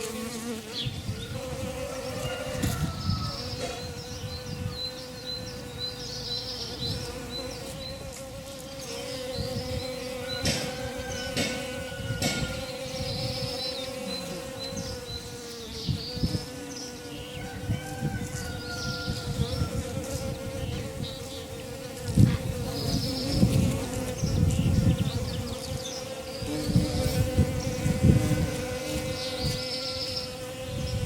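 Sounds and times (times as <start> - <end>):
flying insect buzzing: 0.0 - 31.0
small birds chirping: 0.0 - 31.0.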